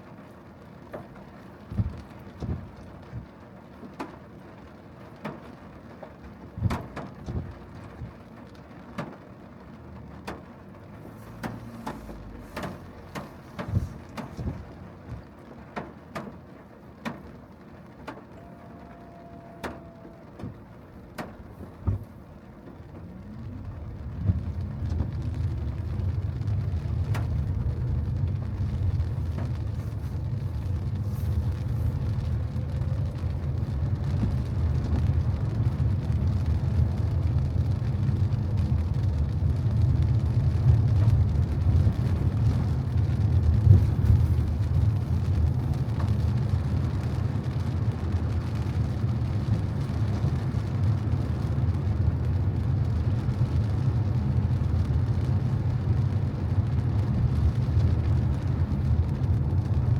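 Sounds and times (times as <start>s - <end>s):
car driving on wet road: 0.0s - 59.9s
raindrops tapping on car: 0.0s - 59.9s.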